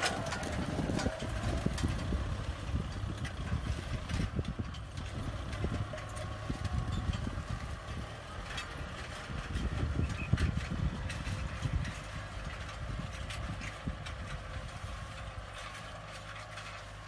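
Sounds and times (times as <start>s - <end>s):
harrow discs clanking and rattling: 0.0s - 17.0s
tractor diesel engine running: 0.0s - 17.0s.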